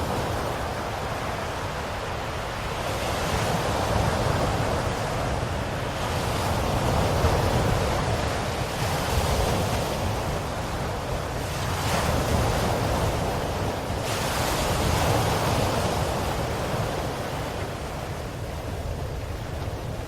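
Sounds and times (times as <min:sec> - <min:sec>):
ocean waves washing ashore: 0:00.0 - 0:20.0.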